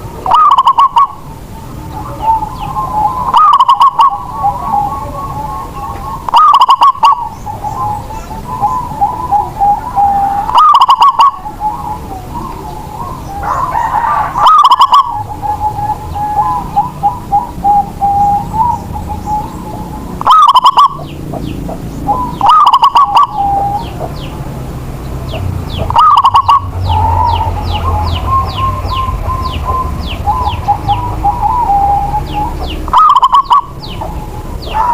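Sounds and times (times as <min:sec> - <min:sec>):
dove cooing song: 0:00.0 - 0:34.9
quiet cooing doves: 0:00.0 - 0:34.9
small birds chirping: 0:00.0 - 0:34.9.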